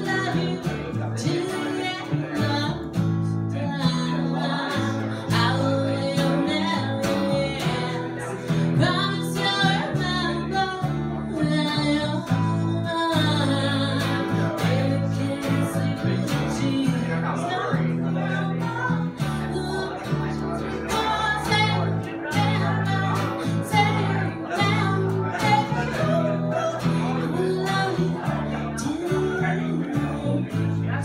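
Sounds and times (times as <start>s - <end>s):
double bass low notes: 0.0s - 31.0s
strummed acoustic guitar: 0.0s - 31.0s
woman singing: 0.0s - 31.0s.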